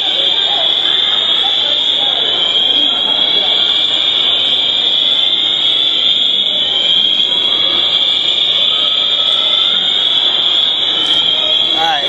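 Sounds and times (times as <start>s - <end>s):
fire alarm steady high tone: 0.0s - 12.0s.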